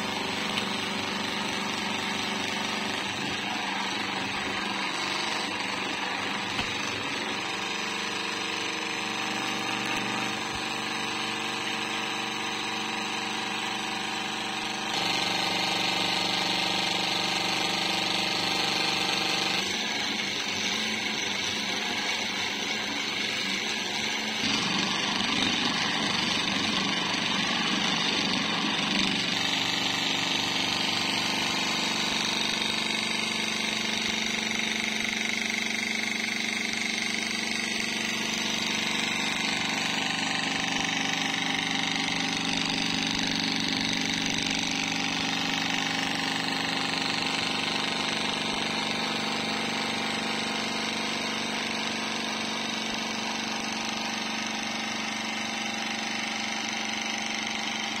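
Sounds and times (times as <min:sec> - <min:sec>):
electric motor humming: 0:00.0 - 0:58.0.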